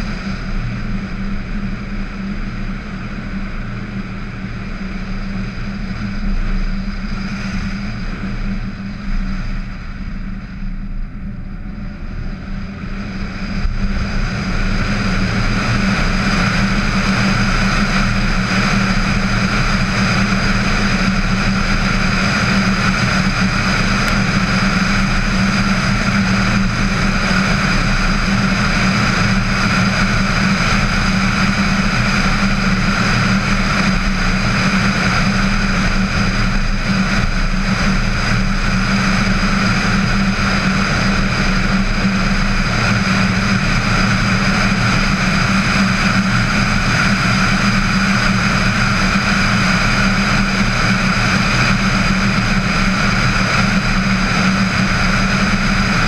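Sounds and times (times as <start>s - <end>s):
wind rush over microphone: 0.0s - 56.0s.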